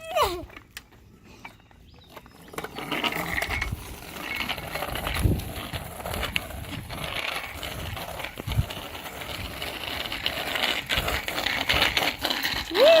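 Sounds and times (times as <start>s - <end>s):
bicycle clicks and rattles: 0.6s - 13.0s.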